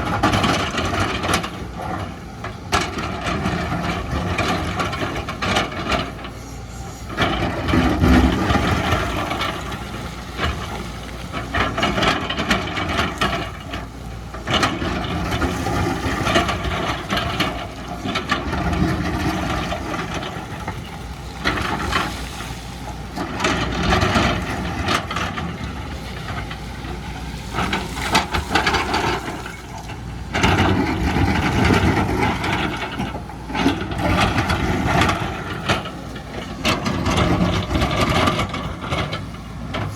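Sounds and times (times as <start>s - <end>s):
machine rattling and knocks: 0.0s - 6.4s, 7.1s - 22.2s, 22.9s - 39.9s
excavator diesel engine: 0.0s - 39.9s.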